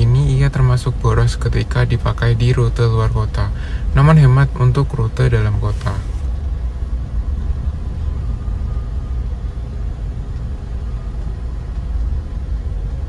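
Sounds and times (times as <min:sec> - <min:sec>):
car engine inside cabin: 0:00.0 - 0:13.0.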